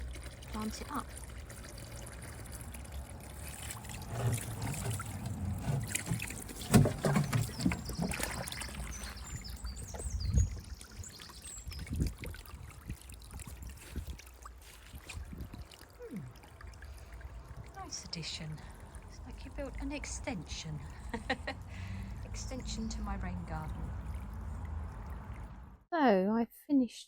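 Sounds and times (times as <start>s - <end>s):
water trickling and sloshing: 0.0s - 25.9s.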